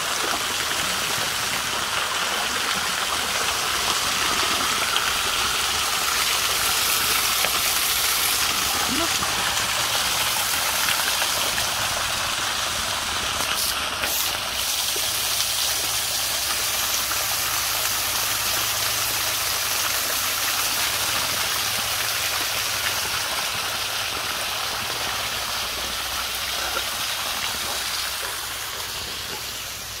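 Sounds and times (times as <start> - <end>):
waterfall splashing onto rocks: 0.0 - 30.0.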